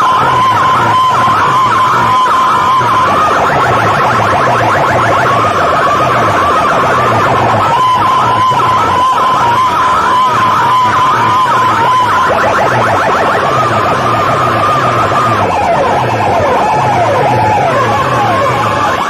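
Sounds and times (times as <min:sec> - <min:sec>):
electronic siren effects: 0:00.0 - 0:19.0
pulsing bass beat: 0:00.0 - 0:19.0.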